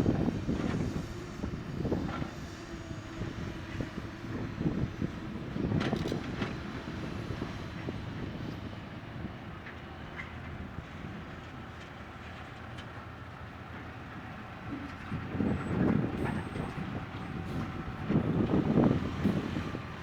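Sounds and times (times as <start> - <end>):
excavator diesel engine rumbling: 0.0 - 20.0.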